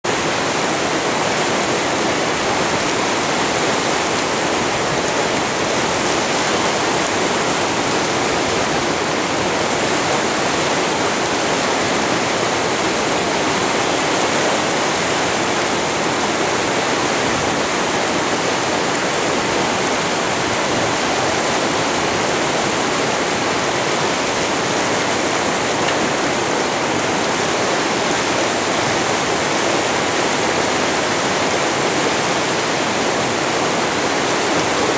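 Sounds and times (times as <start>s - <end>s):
whitewater rapids rushing: 0.0s - 34.9s.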